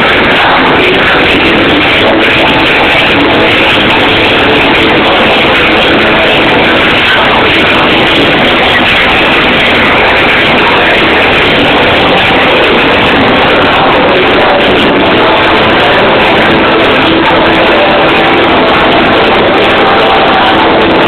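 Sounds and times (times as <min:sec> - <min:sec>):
crowd noise: 0:00.0 - 0:21.0
loud distorted live music: 0:00.0 - 0:21.0.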